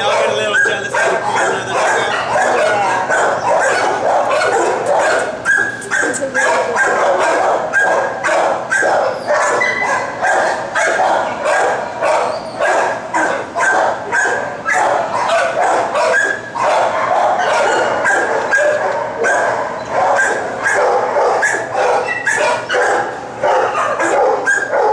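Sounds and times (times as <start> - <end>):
many dogs barking: 0.0 - 24.9.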